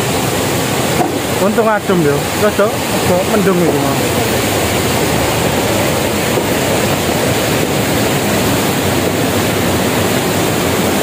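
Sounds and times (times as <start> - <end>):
rushing stream water: 0.0 - 11.0.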